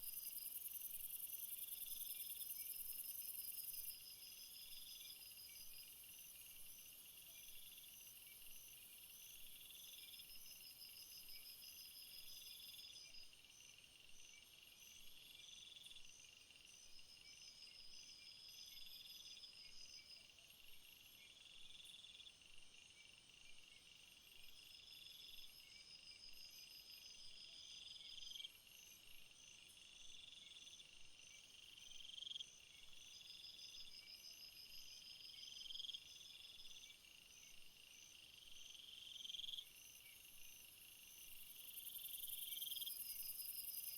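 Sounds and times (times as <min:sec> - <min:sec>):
insect trill: 0:00.0 - 0:43.9
insects droning: 0:00.0 - 0:43.9.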